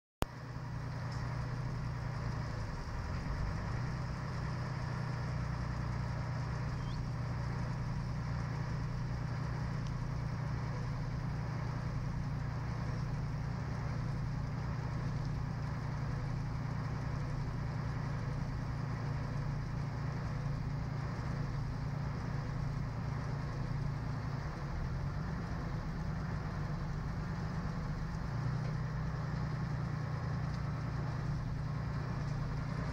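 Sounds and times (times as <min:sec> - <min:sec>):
boat engine running: 0:00.3 - 0:32.9.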